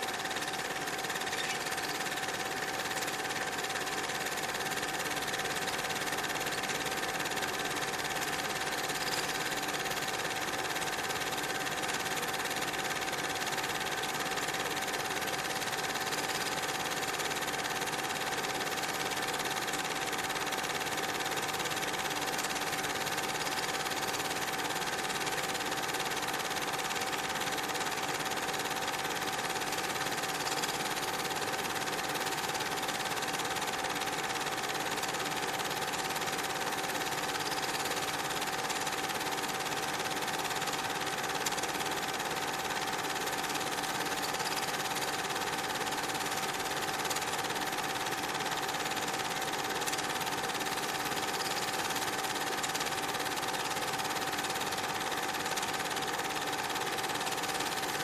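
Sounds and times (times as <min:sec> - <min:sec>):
small machine whirring and humming: 0:00.0 - 0:58.0.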